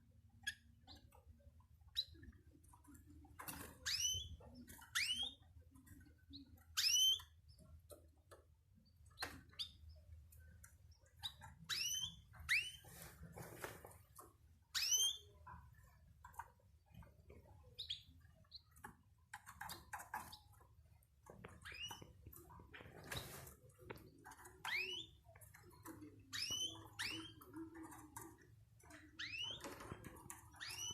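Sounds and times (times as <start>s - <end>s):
birds chirping: 0.0s - 30.9s
scratchy bird chatter and clicks: 0.2s - 30.9s.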